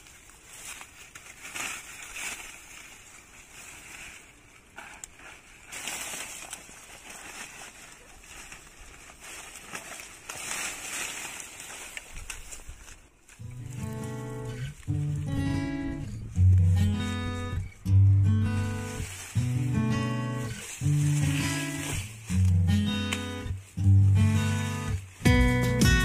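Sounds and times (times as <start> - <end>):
dry leaves rustling and tearing: 0.0 - 26.0.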